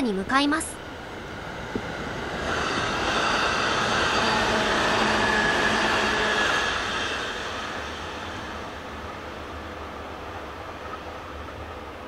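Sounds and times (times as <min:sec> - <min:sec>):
train wheels rumbling on rails: 0:00.2 - 0:12.0.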